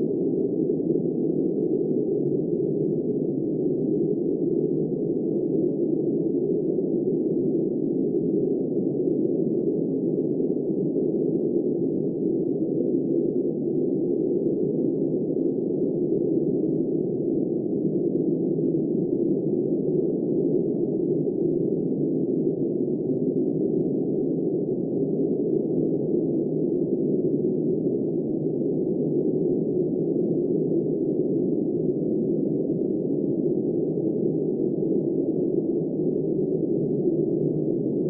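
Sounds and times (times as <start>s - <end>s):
muffled wind noise: 0.0s - 38.0s.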